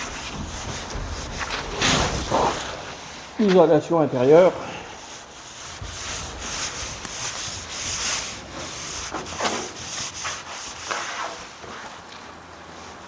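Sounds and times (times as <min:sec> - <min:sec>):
hand rubbing a panel: 0:00.0 - 0:03.7, 0:04.4 - 0:13.0.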